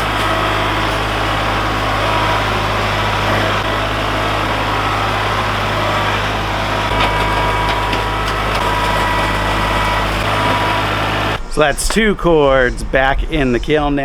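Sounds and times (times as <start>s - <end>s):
engine running steadily: 0.0s - 11.4s.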